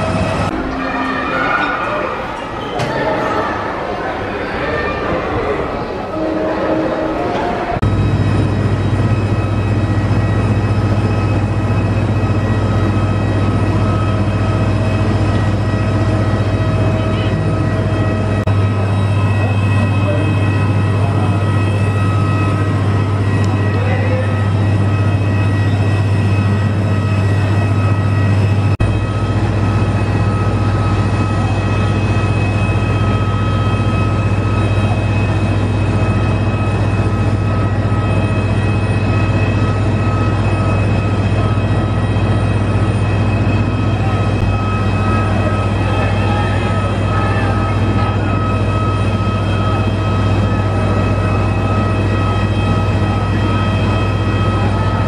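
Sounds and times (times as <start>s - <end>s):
airliner low hum: 0.0s - 55.0s
high whining tones: 0.0s - 55.0s.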